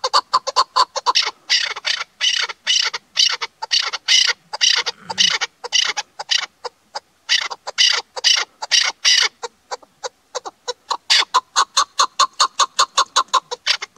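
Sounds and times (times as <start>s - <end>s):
partridge clucking calls: 0.0s - 13.9s.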